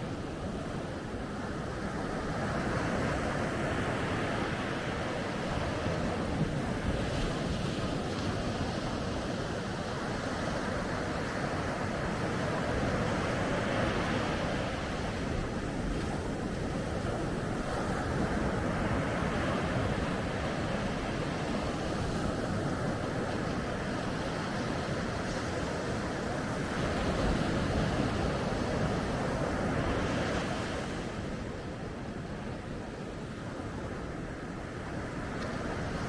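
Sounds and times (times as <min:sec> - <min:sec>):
ocean waves breaking on beach: 0:00.0 - 0:36.0.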